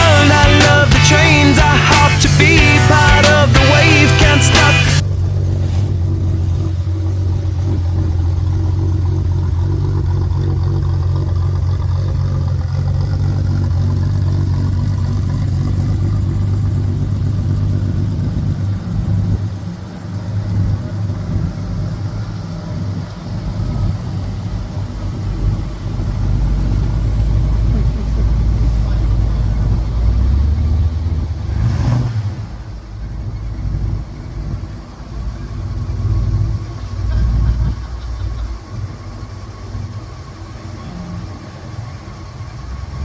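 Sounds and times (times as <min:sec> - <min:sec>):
car engine running: 0:00.0 - 0:43.0
road noise: 0:00.0 - 0:43.0.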